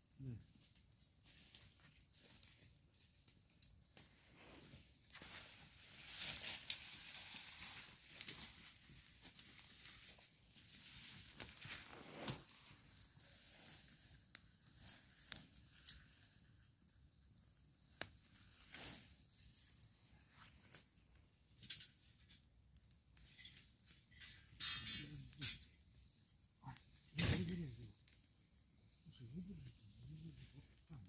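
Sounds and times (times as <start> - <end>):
campfire crackling: 0.0 - 31.0
fire popping and snapping: 0.0 - 31.0.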